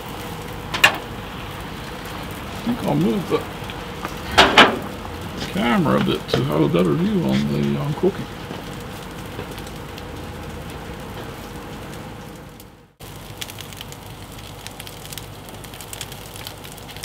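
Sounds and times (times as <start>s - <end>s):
gas grill burners hissing: 0.0s - 17.0s
sausages sizzling and crackling: 0.0s - 17.0s.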